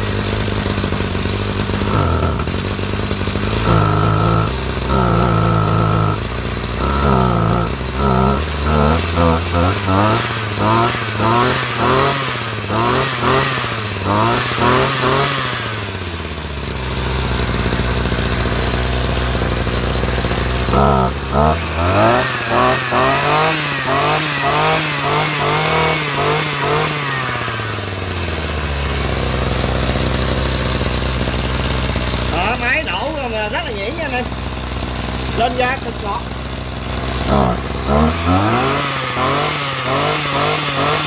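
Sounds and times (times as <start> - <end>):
brush cutter engine revving: 0.0 - 41.0.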